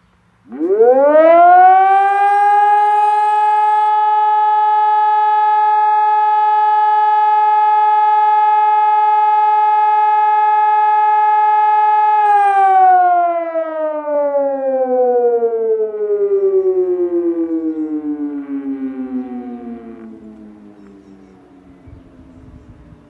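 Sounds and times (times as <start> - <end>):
civil defence siren wailing: 0.0 - 23.0.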